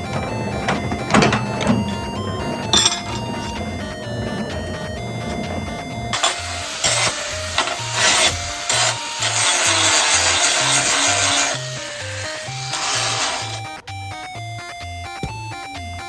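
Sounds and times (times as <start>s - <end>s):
power tool working metal: 0.0s - 13.7s
background music with steady beat: 0.0s - 16.0s.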